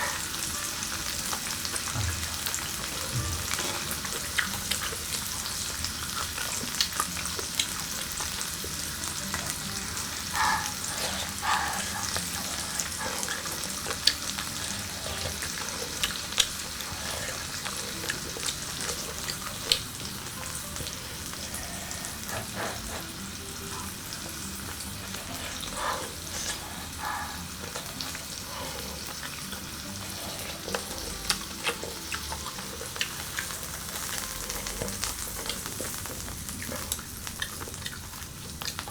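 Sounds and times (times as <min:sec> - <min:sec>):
food sizzling on a grill: 0:00.0 - 0:38.9.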